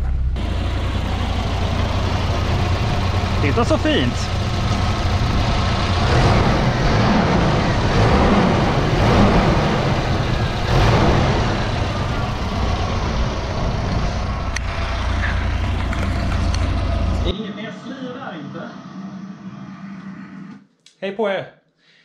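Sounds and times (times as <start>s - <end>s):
car engine running: 0.0s - 20.1s.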